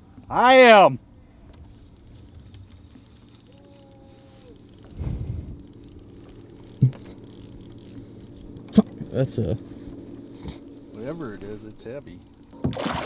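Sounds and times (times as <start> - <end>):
fishing reel ticking: 1.5 - 12.6.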